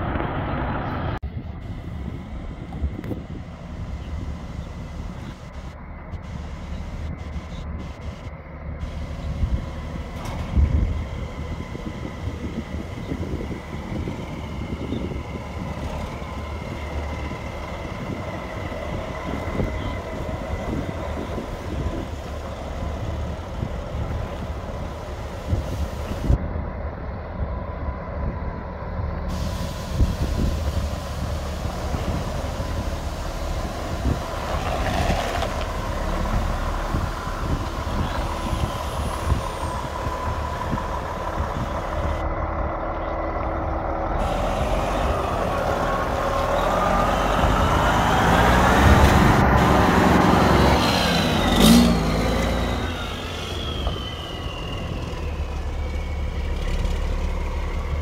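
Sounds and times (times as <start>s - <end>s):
truck engine rumble: 0.0s - 58.0s.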